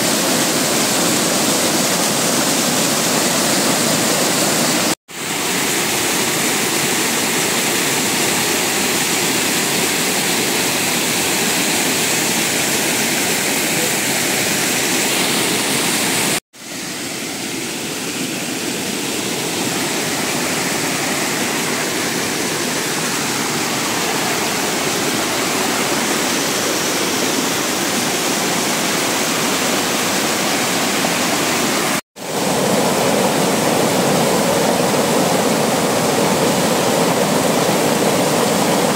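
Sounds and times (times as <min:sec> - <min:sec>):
waterfall rushing into pool: 0:00.0 - 0:38.9.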